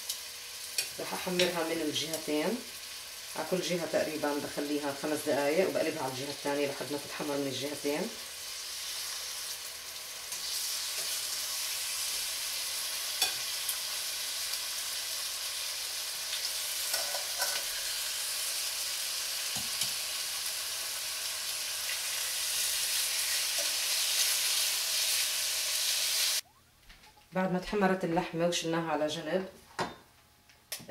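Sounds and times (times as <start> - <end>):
meat sizzling in hot oil: 0.0 - 26.4.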